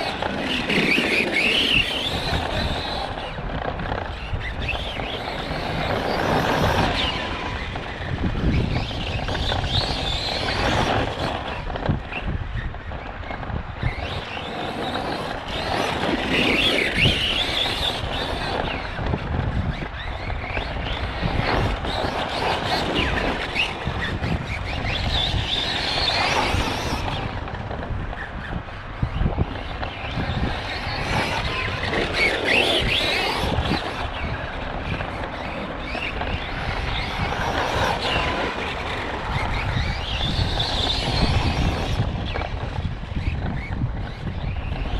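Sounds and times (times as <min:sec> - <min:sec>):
rc truck motor whining: 0:00.0 - 0:44.9.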